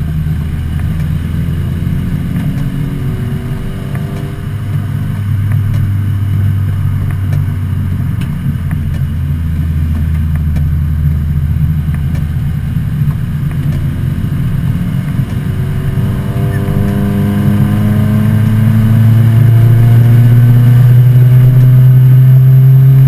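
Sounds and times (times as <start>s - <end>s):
car engine droning in cabin: 0.0s - 23.0s.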